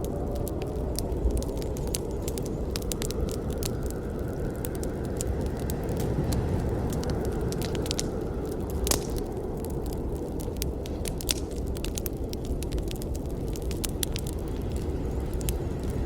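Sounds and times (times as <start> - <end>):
campfire flames rushing: 0.0 - 16.0
wood crackling and popping: 0.0 - 16.0.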